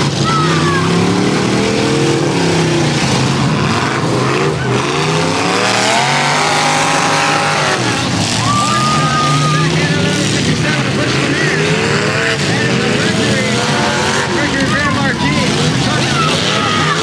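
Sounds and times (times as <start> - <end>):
car engines revving hard: 0.0 - 17.0
cars ramming each other: 0.0 - 17.0.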